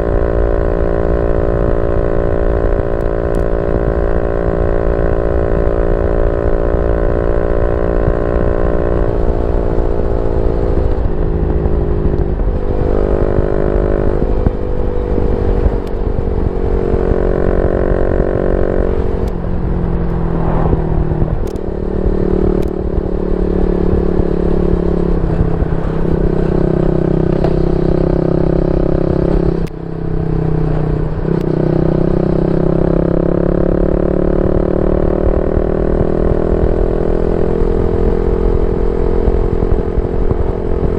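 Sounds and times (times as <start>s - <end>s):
motorcycle engine running loudly: 0.0s - 40.9s.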